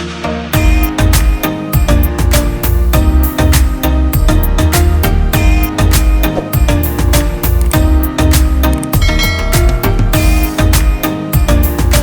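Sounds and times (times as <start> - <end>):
background music with beat: 0.0 - 12.0
bass: 0.0 - 12.0.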